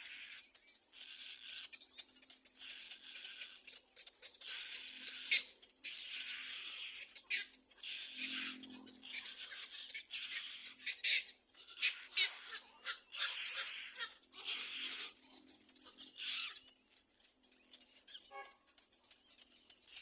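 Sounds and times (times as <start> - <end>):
bird chick rasping begging cries: 0.0 - 20.0.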